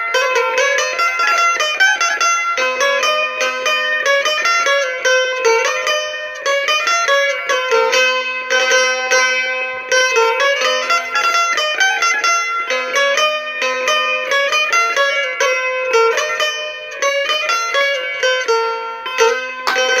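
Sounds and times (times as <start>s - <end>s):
plucked lute melody with drone: 0.0s - 20.0s.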